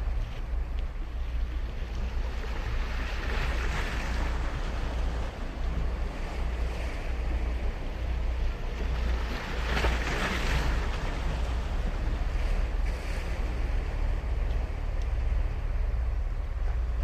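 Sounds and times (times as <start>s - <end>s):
ocean waves breaking: 0.0s - 17.0s
wind rumble on microphone: 0.0s - 17.0s.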